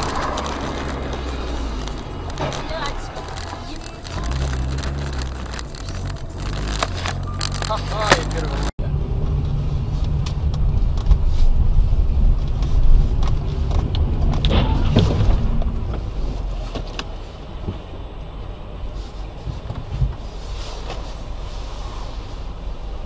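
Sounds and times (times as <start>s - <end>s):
car engine rumble: 0.0s - 23.0s.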